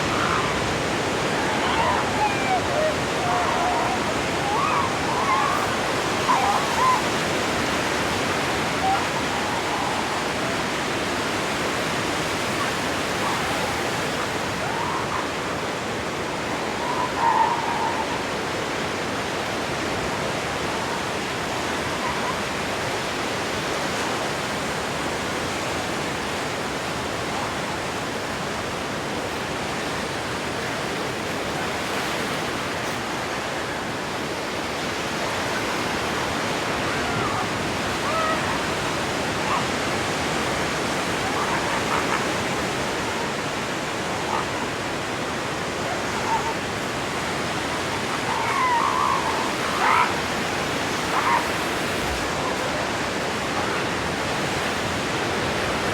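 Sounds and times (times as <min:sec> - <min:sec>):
seals calling: 0:00.0 - 0:55.9
surf washing on a beach: 0:00.0 - 0:55.9.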